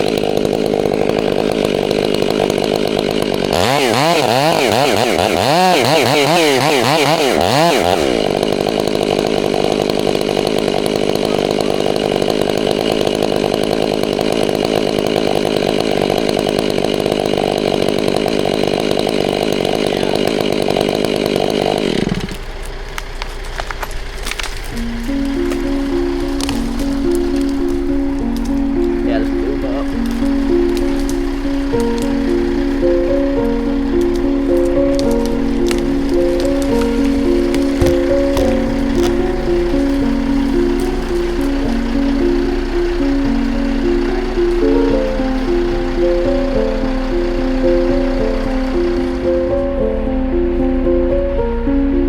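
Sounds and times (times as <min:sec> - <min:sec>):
chainsaw cutting through tree: 0:00.0 - 0:51.8.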